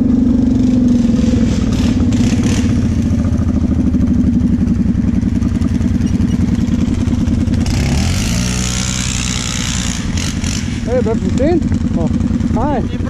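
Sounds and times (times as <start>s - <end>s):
quad engine chugging: 0.0s - 13.0s
second quad revving: 0.0s - 13.0s.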